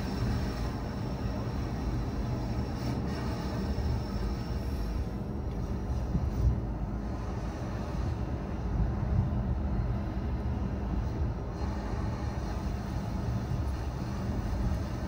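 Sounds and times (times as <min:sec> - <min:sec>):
car engine rumble: 0:00.0 - 0:15.0
tyres on the road: 0:00.0 - 0:15.0.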